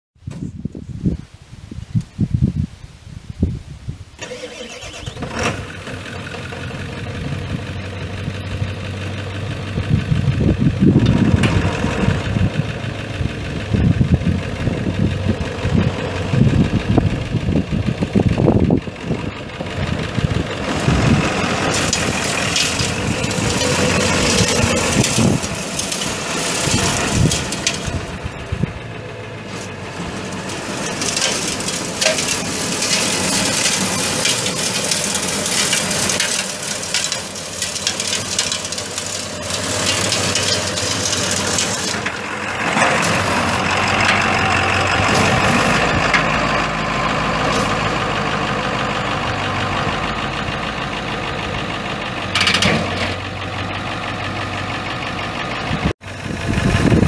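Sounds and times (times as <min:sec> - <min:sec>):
diesel engine starting and running: 0:04.1 - 0:57.0.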